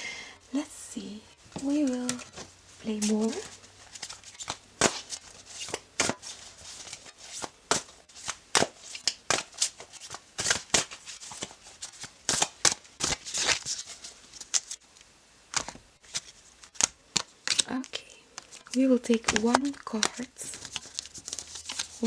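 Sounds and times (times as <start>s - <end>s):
cards being shuffled: 1.3s - 22.0s.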